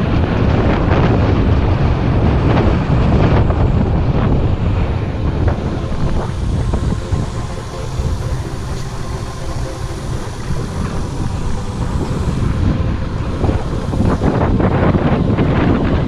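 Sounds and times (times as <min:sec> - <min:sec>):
motor scooter engine running: 0:00.0 - 0:16.0
wind rumbling on microphone: 0:00.0 - 0:16.0.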